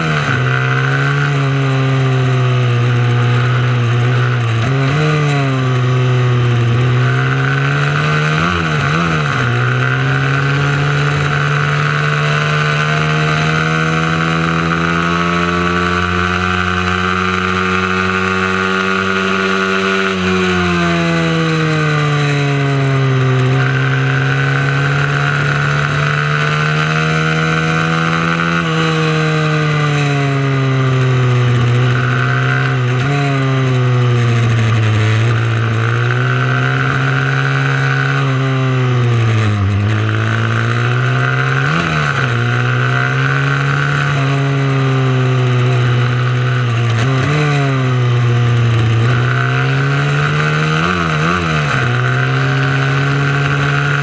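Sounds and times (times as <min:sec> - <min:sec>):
mini moto engine revving: 0:00.0 - 0:54.0.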